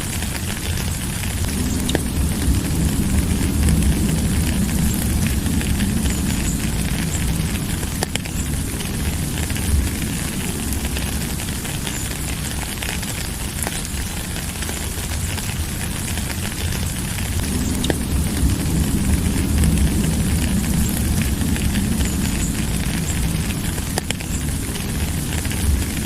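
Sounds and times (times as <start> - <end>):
deep low rumble: 0.0 - 26.0
raindrop clicks: 0.0 - 26.0
steady rain hiss: 0.0 - 26.0.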